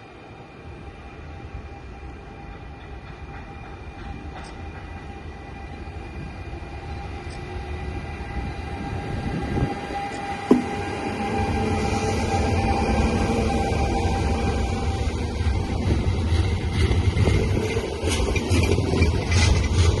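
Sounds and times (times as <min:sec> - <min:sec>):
electric train whine: 0:00.0 - 0:20.0.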